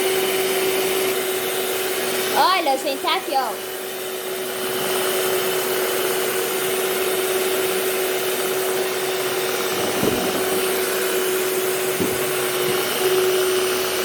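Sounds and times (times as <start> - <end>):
electric mixer whining: 0.0 - 14.0.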